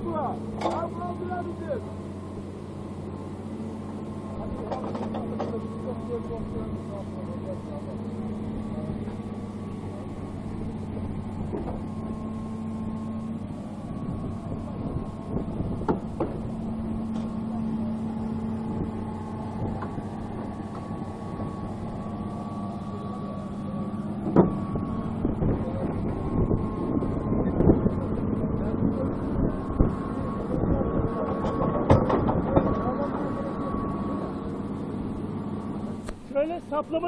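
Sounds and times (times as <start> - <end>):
excavator engine running: 0.0 - 37.0.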